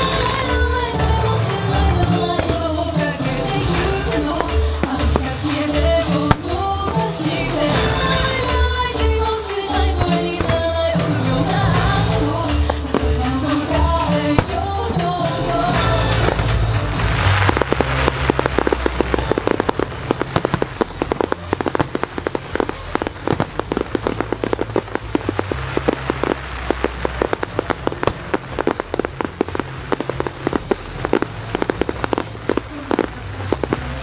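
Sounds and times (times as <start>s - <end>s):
fireworks launching and bursting: 0.0s - 34.0s.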